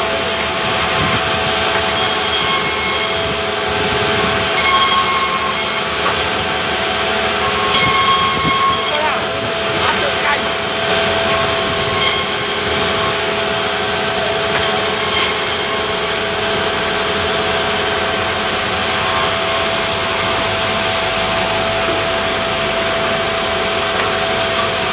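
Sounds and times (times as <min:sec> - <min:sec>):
band saw running: 0:00.0 - 0:24.9
saw whine: 0:00.0 - 0:24.9.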